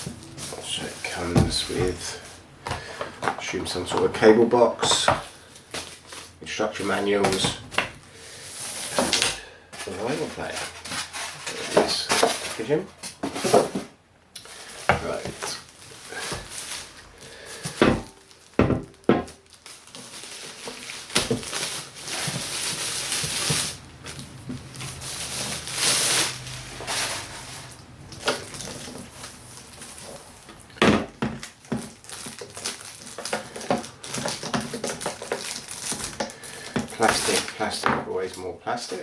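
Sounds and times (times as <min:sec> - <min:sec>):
plastic wrap and cardboard rustling: 0:00.0 - 0:39.0.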